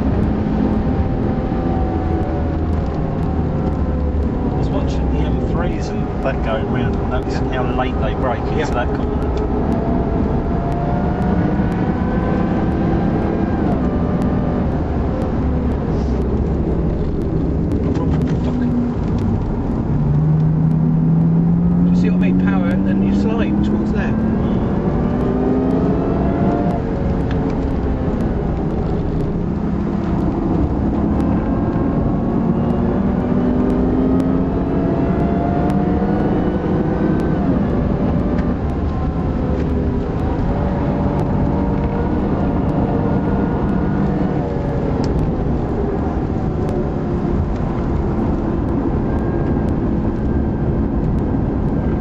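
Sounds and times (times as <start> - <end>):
steady low rumble: 0.0 - 36.2, 36.8 - 52.0
race car engines accelerating: 0.0 - 52.0.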